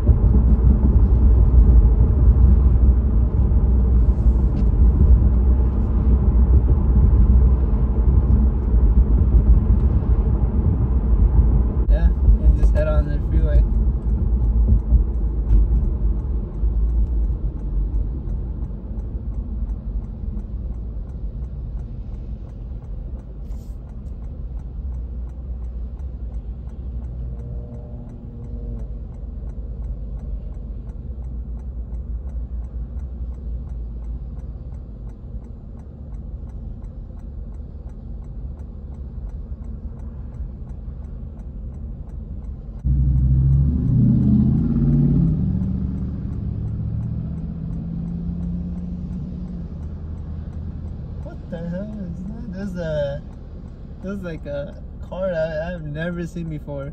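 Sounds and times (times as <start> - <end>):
car engine idling hum: 0.0 - 56.9
engine and tyre rumble on wet road: 0.0 - 56.9.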